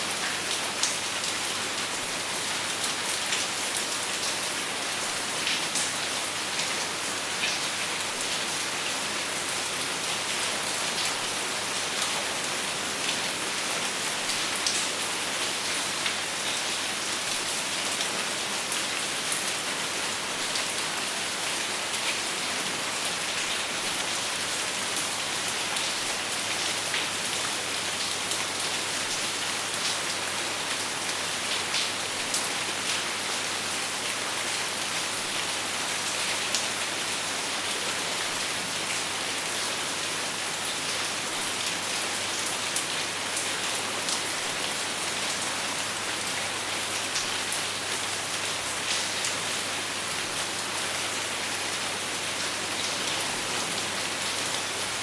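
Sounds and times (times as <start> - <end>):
rain pattering on a surface: 0.1 - 55.0.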